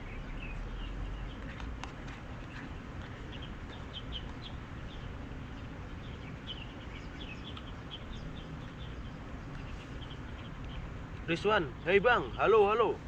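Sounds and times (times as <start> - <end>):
small birds chirping: 0.0 - 13.0
steady low background noise: 0.0 - 13.0.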